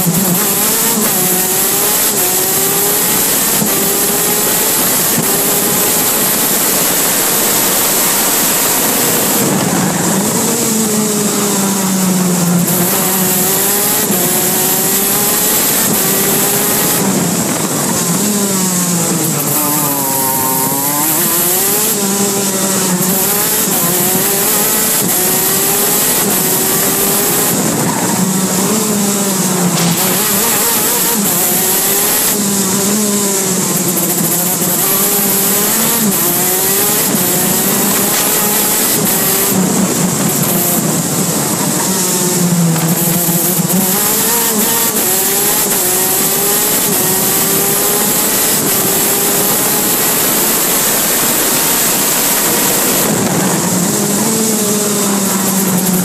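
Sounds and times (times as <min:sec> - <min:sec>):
two-stroke kart engine revving: 0:00.0 - 0:56.0.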